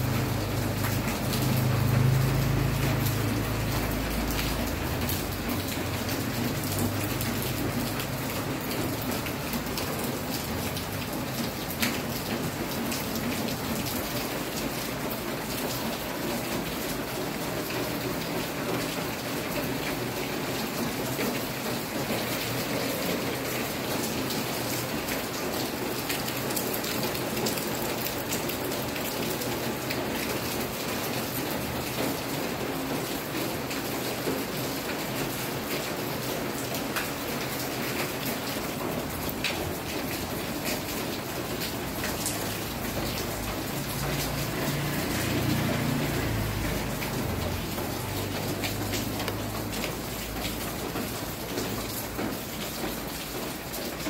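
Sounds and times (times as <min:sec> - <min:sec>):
steady rain falling: 0:00.0 - 0:54.0
water running off roof: 0:00.0 - 0:54.0.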